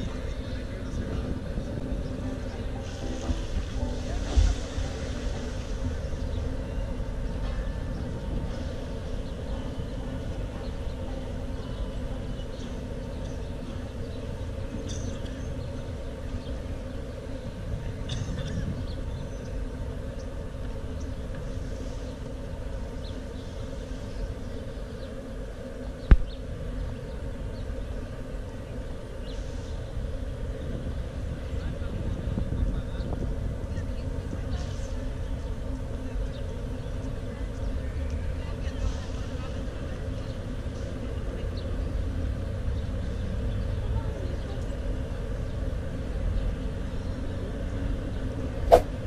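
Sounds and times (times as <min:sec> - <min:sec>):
city street traffic rumble: 0:00.0 - 0:49.0.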